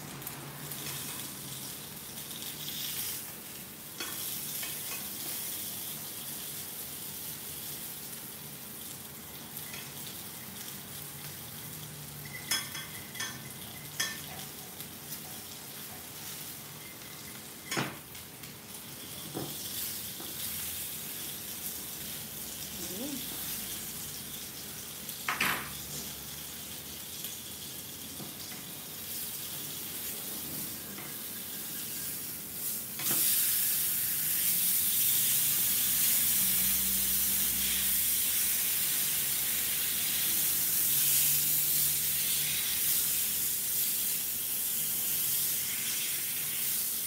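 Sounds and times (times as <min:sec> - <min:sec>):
fish sizzling in oil: 0:00.0 - 0:47.0.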